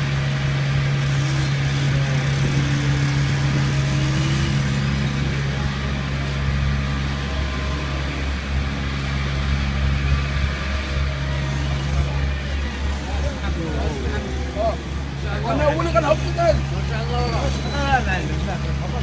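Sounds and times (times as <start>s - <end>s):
diesel truck engine idling: 0.0s - 19.0s
street noise: 0.0s - 19.0s.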